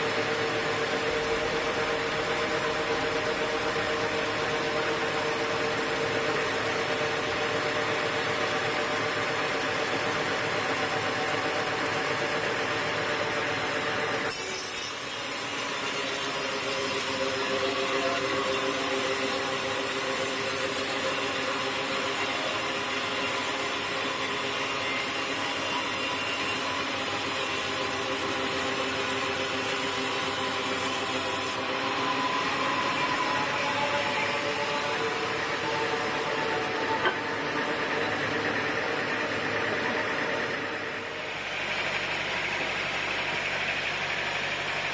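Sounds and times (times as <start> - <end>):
sawmill saw cutting wood: 0.0 - 44.9.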